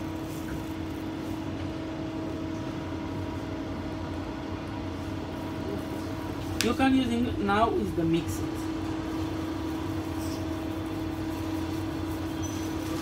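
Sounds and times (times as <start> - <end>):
mechanical room hum: 0.0 - 13.0.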